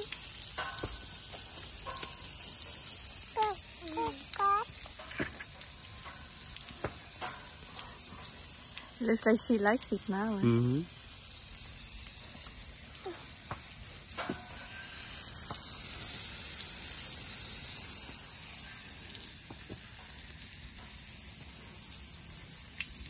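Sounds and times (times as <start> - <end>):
water spraying from a hose: 0.0 - 23.0.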